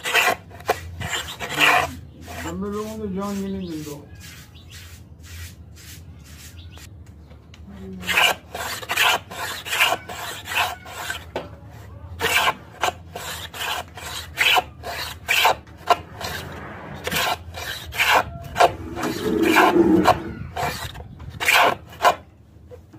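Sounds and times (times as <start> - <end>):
hand plane shaving wood: 0.0 - 6.5, 8.0 - 11.4, 12.2 - 22.2.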